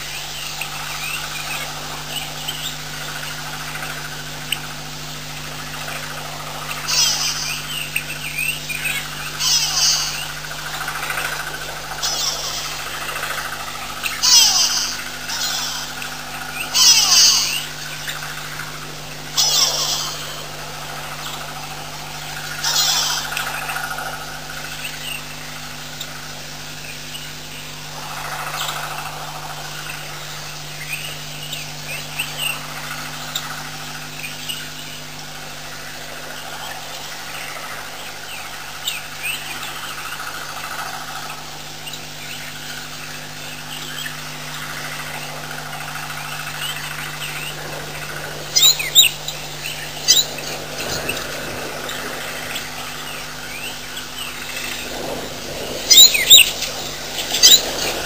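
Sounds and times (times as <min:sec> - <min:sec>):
sharp bird calls: 0:00.0 - 0:58.0
steady low hum: 0:00.0 - 0:58.0.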